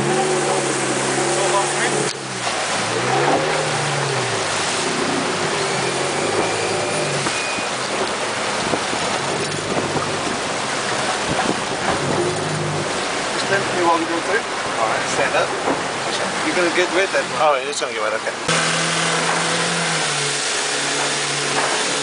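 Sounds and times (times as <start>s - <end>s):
outboard motor running: 0.0s - 17.6s, 18.3s - 22.0s
rushing water and spray: 0.0s - 22.0s.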